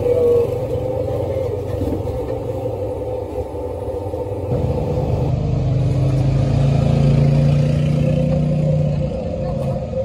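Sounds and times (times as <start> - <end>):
engine humming rising in pitch: 0.0 - 10.0.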